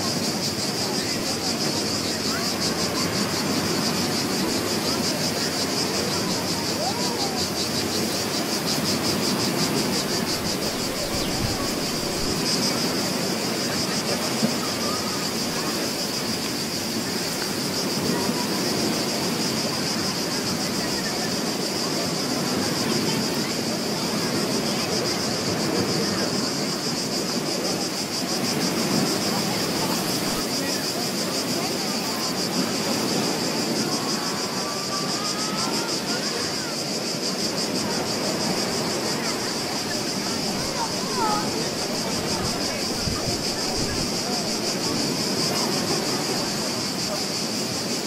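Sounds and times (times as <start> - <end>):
waves washing on shore: 0.0 - 48.0.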